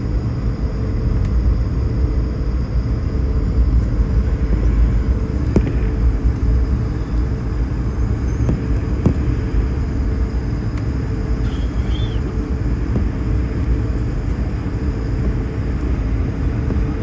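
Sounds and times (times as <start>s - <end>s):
jet airliner taxiing rumble: 0.0s - 17.0s.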